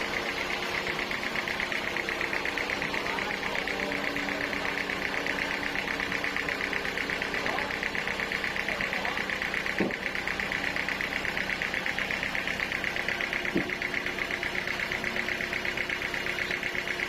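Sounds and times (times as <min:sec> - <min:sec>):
sawmill engine pulsing: 0:00.0 - 0:17.0.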